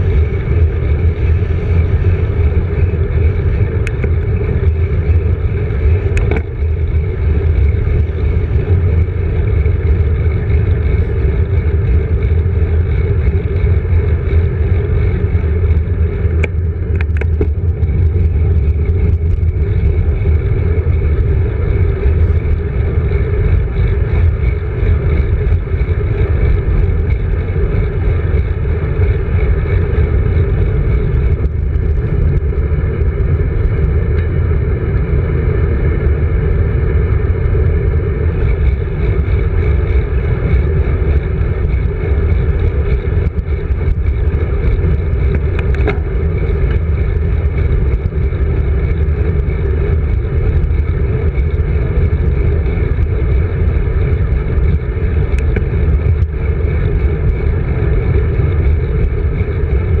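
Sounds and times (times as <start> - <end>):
tyre noise on asphalt: 0.0 - 60.0
wind buffeting microphone: 0.0 - 60.0.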